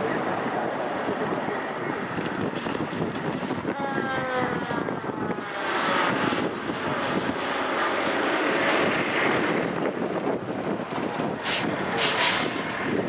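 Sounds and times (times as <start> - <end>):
fire truck driving past: 0.0 - 13.0.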